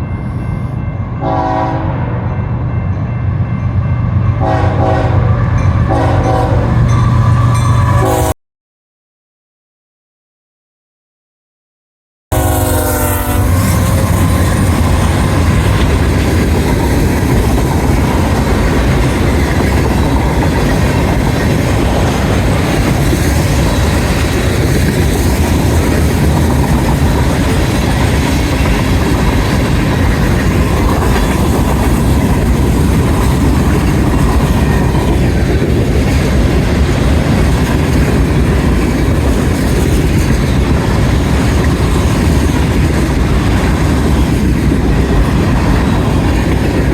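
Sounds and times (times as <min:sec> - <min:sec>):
freight train rumbling past: 0:00.0 - 0:08.3, 0:12.3 - 0:46.9.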